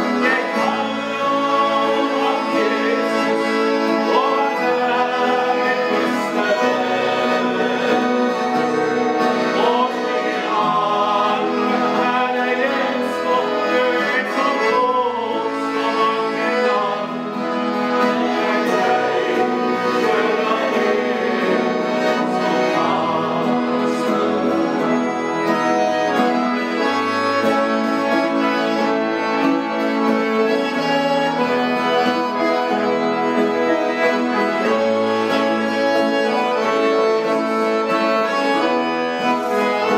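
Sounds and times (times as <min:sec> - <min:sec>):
acoustic guitar accompaniment: 0:00.0 - 0:39.9
piano accordion playing gospel: 0:00.0 - 0:39.9.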